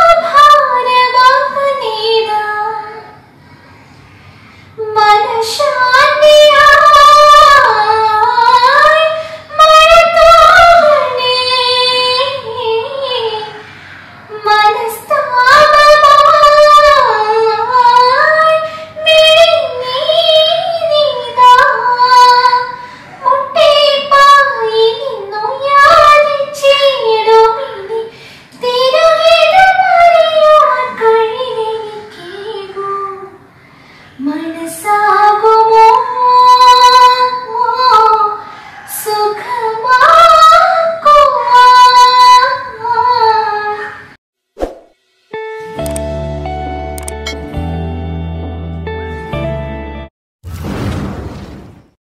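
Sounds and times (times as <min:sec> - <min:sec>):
woman singing unaccompanied: 0:00.0 - 0:03.2, 0:04.8 - 0:33.5, 0:34.2 - 0:44.2.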